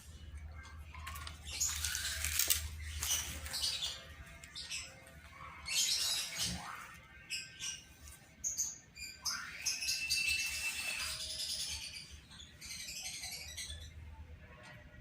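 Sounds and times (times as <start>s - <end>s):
birds chirping and squawking: 0.0s - 14.8s.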